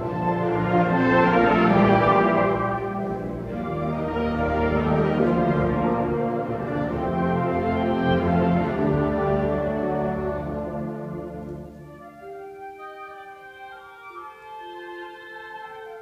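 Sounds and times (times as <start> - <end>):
french horns: 0.0 - 16.0
wind band playing chords: 0.0 - 16.0.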